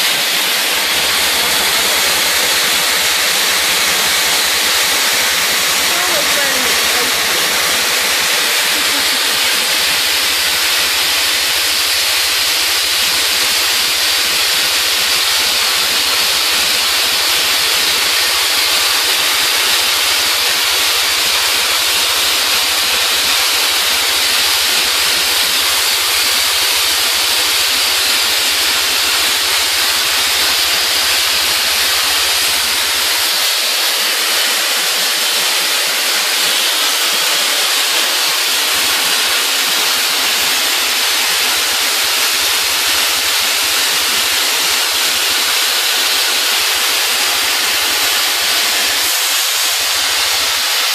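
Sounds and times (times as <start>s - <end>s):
abrasive blasting nozzle hissing: 0.0s - 50.9s.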